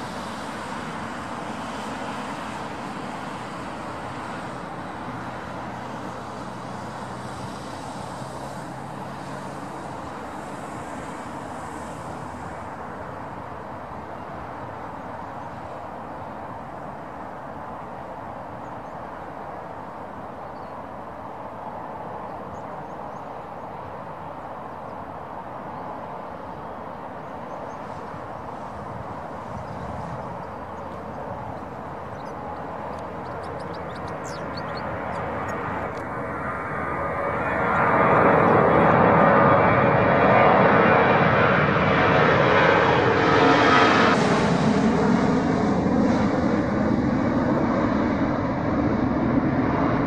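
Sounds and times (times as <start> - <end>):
jet engines at takeoff: 0.0 - 50.0.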